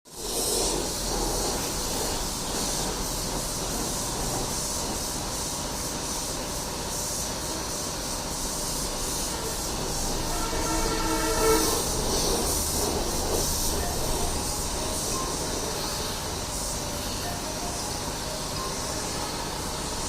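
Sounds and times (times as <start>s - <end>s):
paint spray gun hissing: 0.1s - 20.0s.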